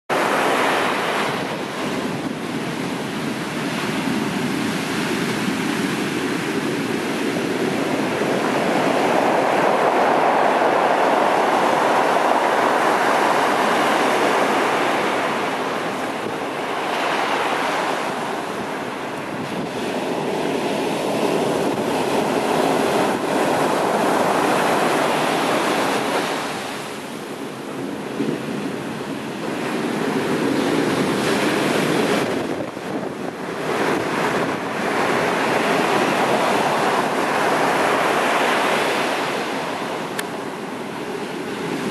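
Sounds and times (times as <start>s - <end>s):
sea surf breaking on beach: 0.1s - 41.9s.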